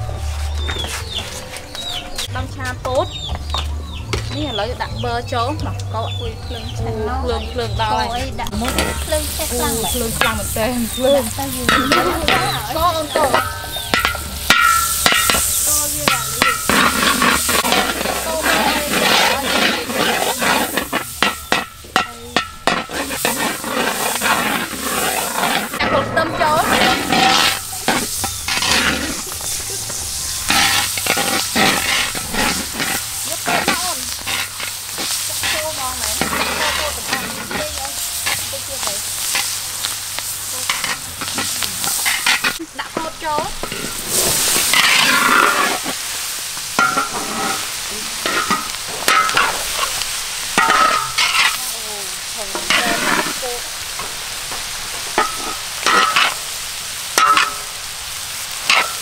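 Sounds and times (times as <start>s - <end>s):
oil sizzling: 0.0s - 59.0s
metal spatula scraping wok: 7.0s - 59.0s.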